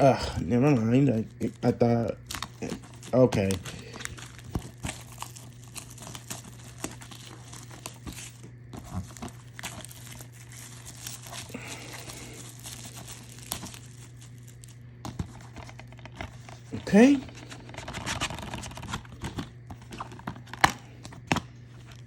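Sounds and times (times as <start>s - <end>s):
plastic packaging crinkling and tearing: 0.0s - 22.0s
steady low hum: 0.0s - 22.0s.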